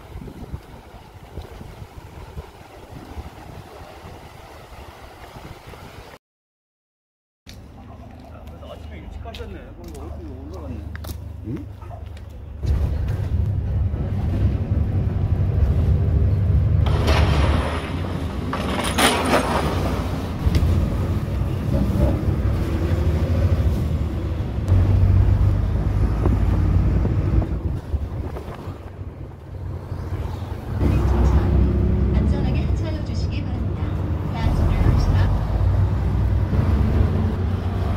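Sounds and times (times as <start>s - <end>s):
bus engine and road noise: 7.5s - 37.9s.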